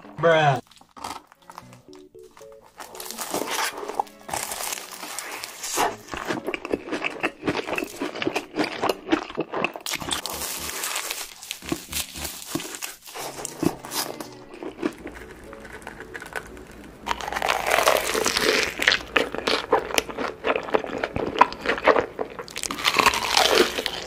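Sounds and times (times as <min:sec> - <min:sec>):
crunching and chewing food: 0:00.0 - 0:24.0.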